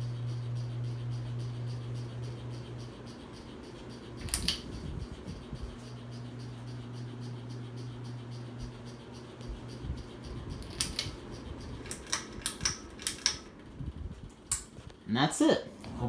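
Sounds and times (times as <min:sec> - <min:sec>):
ceiling fan motor hum: 0:00.0 - 0:16.0.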